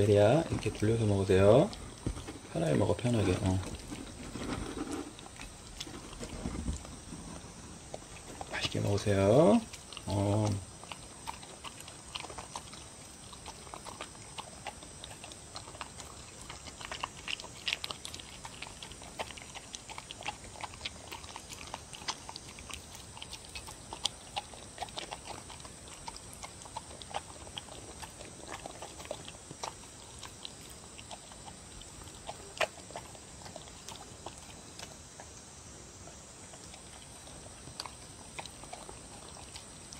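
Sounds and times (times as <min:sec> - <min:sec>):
dog chewing and lapping: 0:00.0 - 0:39.9.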